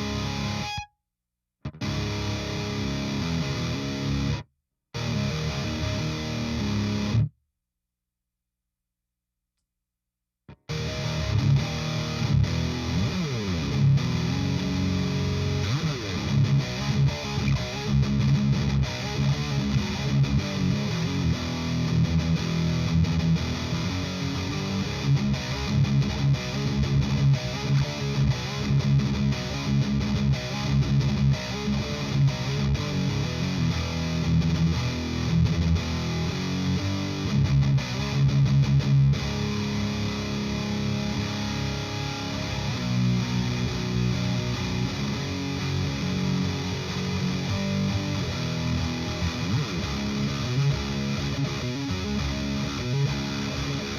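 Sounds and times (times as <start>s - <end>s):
distorted electric guitar riffing: 0.0s - 0.9s, 1.7s - 4.4s, 5.0s - 7.3s, 10.5s - 53.9s.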